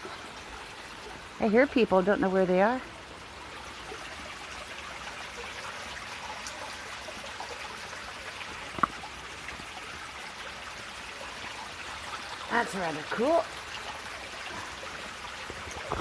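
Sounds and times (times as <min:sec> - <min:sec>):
creek water over rocks: 0:00.0 - 0:16.0.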